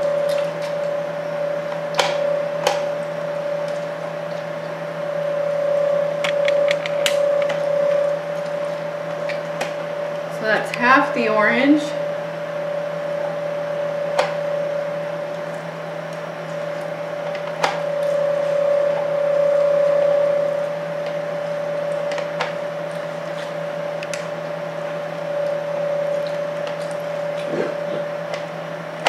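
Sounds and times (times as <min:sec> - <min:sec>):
citrus juicer motor hum: 0:00.0 - 0:29.0.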